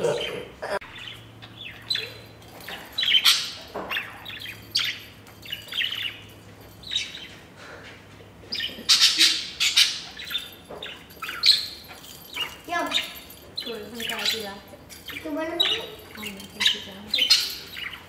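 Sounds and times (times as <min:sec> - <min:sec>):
budgerigar chirping: 0:00.1 - 0:07.4, 0:08.5 - 0:18.0.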